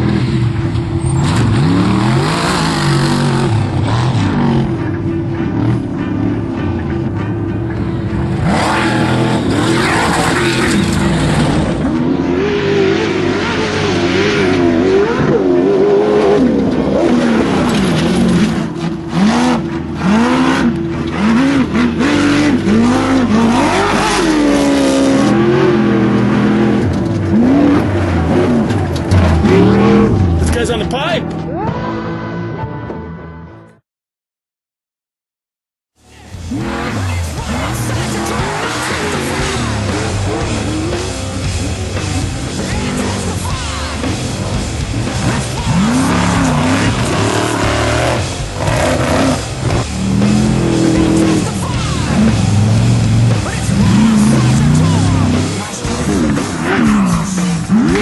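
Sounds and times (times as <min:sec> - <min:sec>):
race vehicle engine revving: 0:00.0 - 0:32.5, 0:36.0 - 0:58.0
music: 0:02.8 - 0:33.8, 0:36.0 - 0:58.0.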